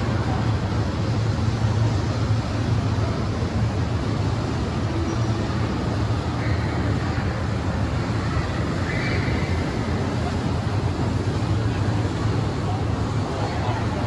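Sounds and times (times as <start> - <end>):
shopping mall ambient hum: 0.0 - 14.0.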